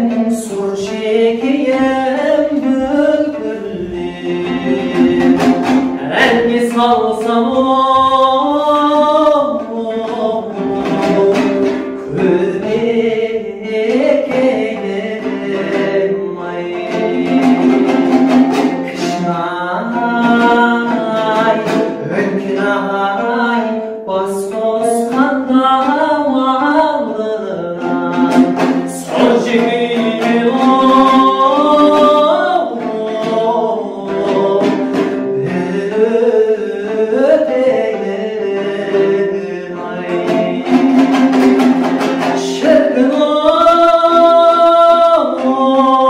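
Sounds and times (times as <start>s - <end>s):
instrumental accompaniment: 0.0s - 46.0s
person singing: 0.0s - 46.0s.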